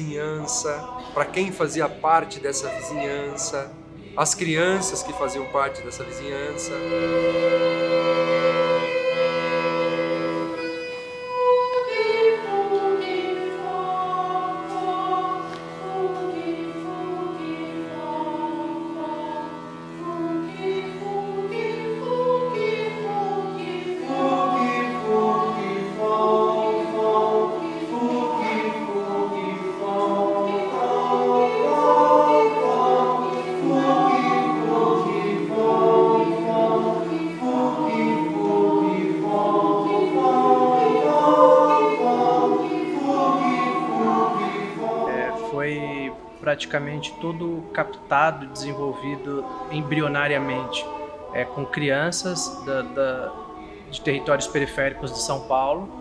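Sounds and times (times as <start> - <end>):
choral singing: 0.0 - 56.0.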